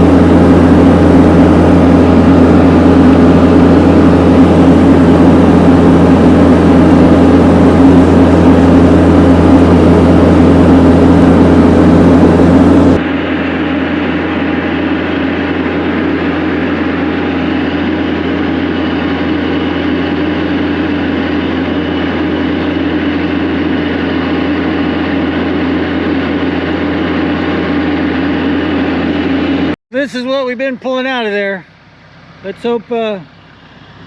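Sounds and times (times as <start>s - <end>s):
heavy vehicle engine humming: 0.0s - 29.8s, 31.6s - 34.0s.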